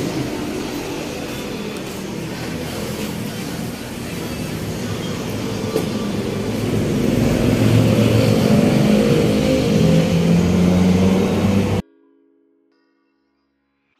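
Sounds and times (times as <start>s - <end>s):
street noise: 0.0s - 11.8s
vehicle engine running: 0.0s - 11.8s.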